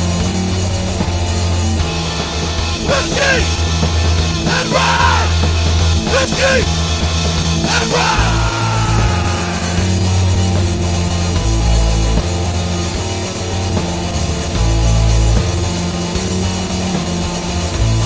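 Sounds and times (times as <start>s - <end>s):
punk song: 0.0s - 18.0s.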